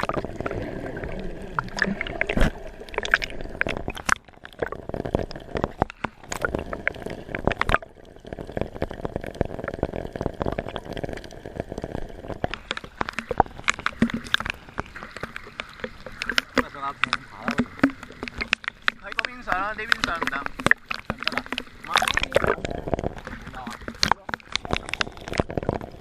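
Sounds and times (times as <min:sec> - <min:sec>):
seawater splashing and gurgling: 0:00.0 - 0:26.0.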